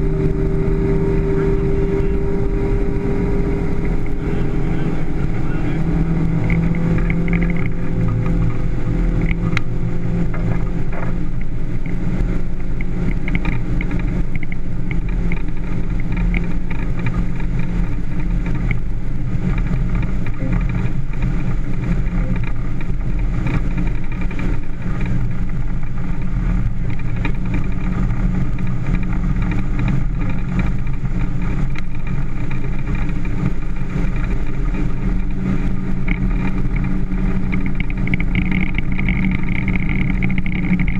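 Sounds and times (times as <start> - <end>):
motorboat engine droning: 0.0 - 40.9.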